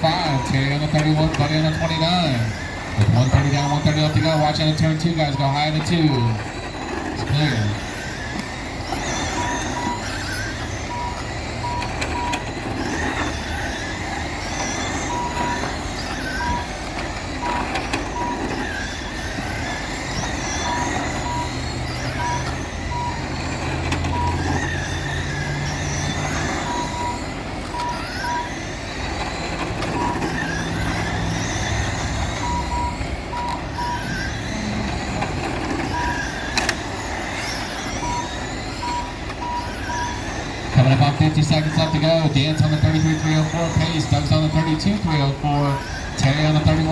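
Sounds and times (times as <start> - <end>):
rc car motors whining: 0.0 - 46.9
short beeps: 0.0 - 46.9.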